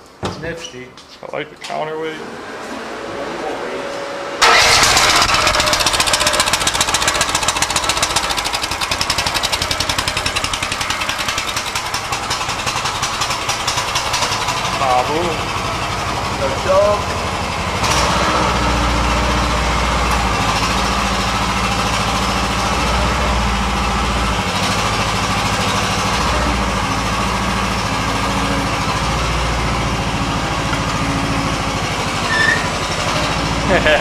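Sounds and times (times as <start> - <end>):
excavator engine idling: 4.4 - 34.0.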